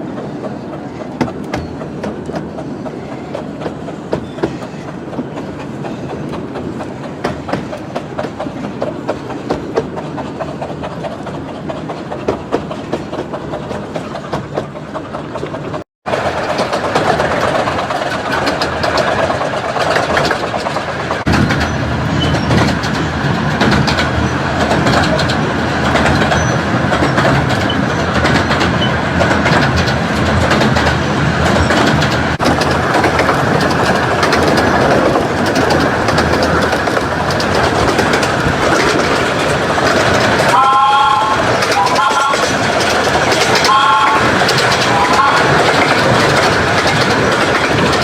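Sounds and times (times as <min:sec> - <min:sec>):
train wheels clattering: 0:00.0 - 0:48.0.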